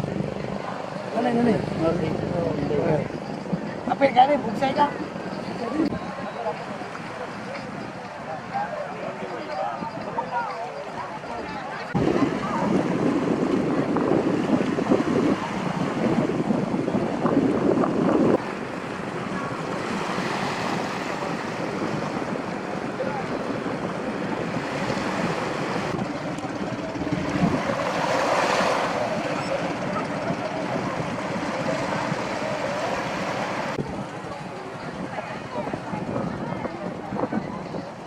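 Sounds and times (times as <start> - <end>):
sea waves washing: 0.0 - 38.0
wind buffeting microphone: 0.0 - 38.0.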